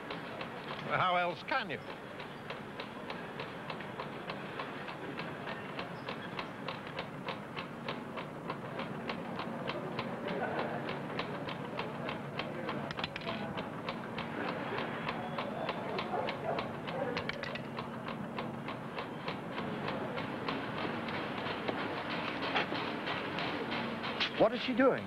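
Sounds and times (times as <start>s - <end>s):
machine-room noise: 0.0s - 25.0s
machinery clicking rhythmically: 0.0s - 25.0s.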